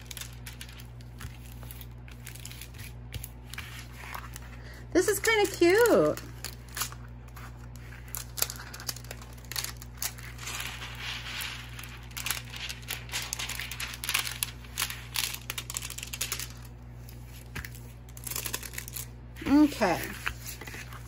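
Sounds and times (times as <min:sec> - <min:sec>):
plastic film crinkling: 0:00.0 - 0:21.0.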